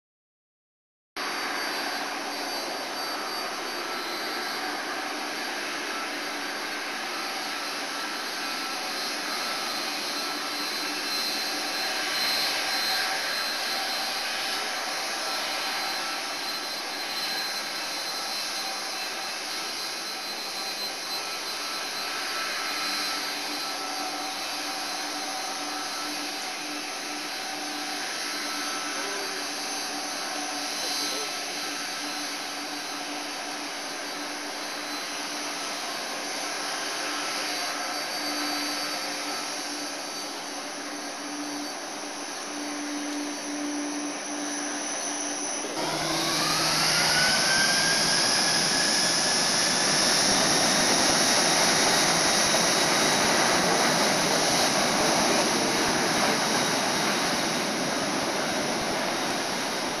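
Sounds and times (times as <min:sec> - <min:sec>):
jet engines whining at taxi power: 0:01.2 - 1:00.0.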